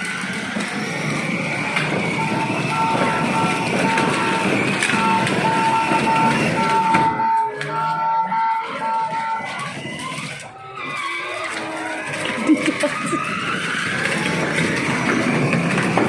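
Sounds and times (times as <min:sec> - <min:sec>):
steady background din: 0:00.0 - 0:16.0
toy car electronic beeping tune: 0:00.0 - 0:16.0.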